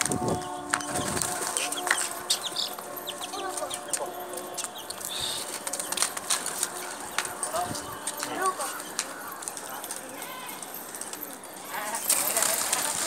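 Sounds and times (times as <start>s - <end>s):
pigeons flapping wings: 0.0s - 13.0s.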